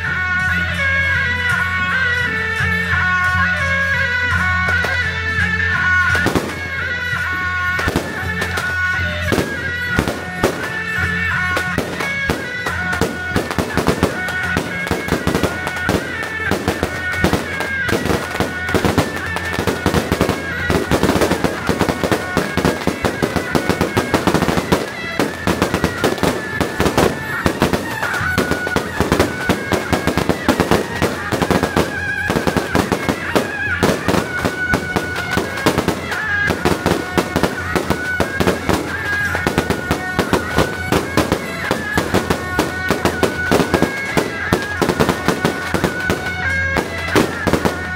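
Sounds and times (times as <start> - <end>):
firecrackers crackling: 0.0 - 47.9
music with held notes: 0.0 - 47.9.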